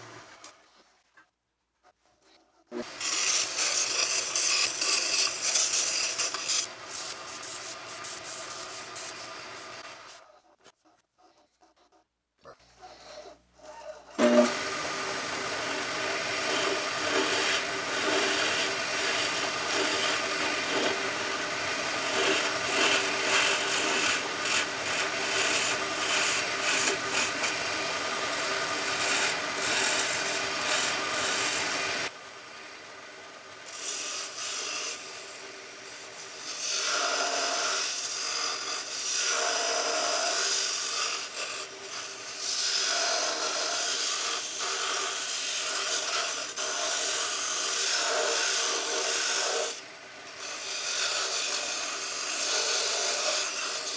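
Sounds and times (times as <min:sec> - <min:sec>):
lathe scraping wood: 0:02.1 - 0:10.8, 0:12.7 - 0:32.1, 0:33.6 - 0:53.9.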